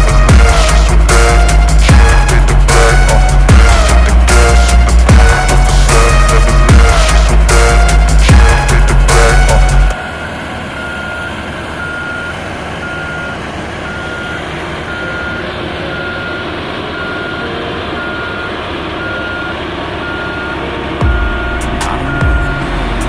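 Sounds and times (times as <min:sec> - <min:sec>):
diesel engine rumble: 0:00.0 - 0:23.0
reversing alarm beeping: 0:01.3 - 0:23.0.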